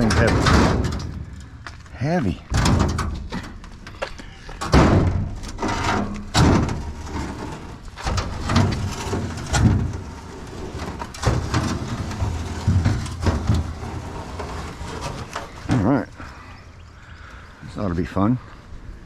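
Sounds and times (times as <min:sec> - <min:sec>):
scrap metal scraping and knocking: 0:00.0 - 0:01.8, 0:02.5 - 0:16.1.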